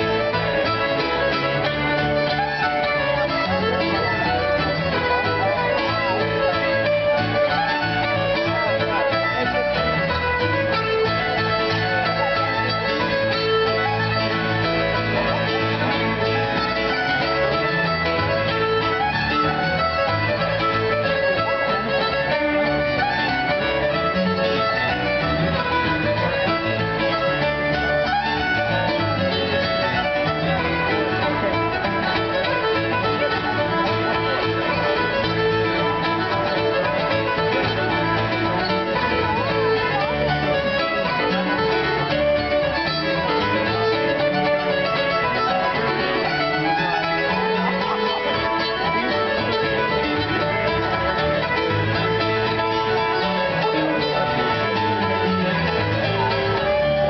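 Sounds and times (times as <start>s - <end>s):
fiddle tune on violin: 0.0s - 57.0s.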